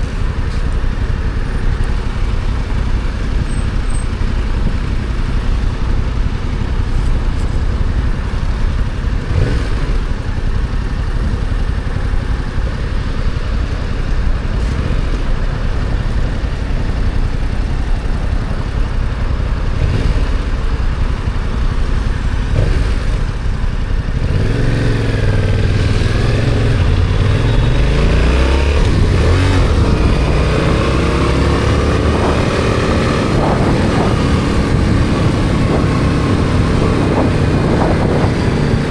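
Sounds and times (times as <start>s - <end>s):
motorcycle engine revving: 0.0s - 38.9s
road noise rushing: 0.0s - 38.9s.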